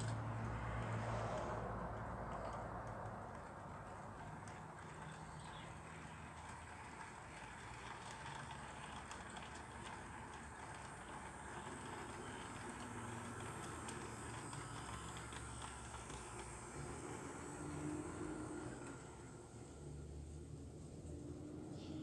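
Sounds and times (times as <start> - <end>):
locomotive motor whirring: 0.0 - 22.0
model train wheels clicking: 0.0 - 22.0.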